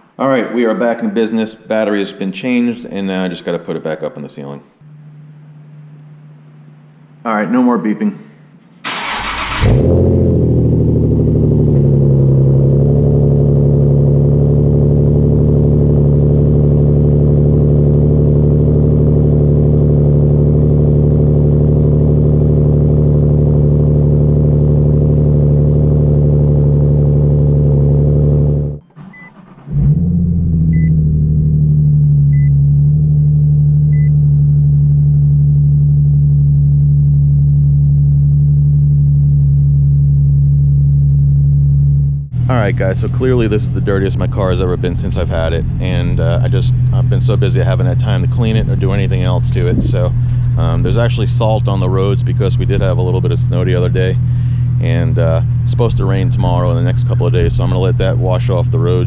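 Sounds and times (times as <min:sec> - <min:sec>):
car engine idling: 0:08.4 - 0:59.0
car engine starting: 0:08.5 - 0:59.0.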